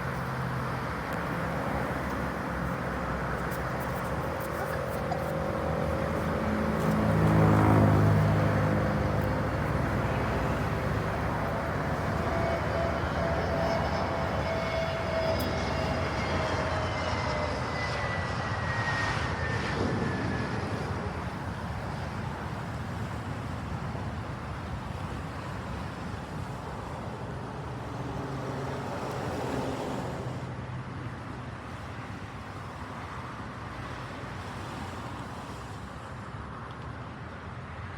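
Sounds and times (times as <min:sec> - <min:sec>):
jet engines rumbling and whining: 0:00.0 - 0:37.9.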